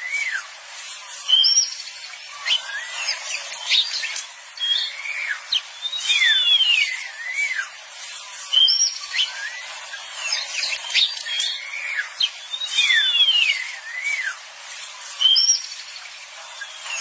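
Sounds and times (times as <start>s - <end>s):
birds calling and chirping: 1.2s - 17.0s.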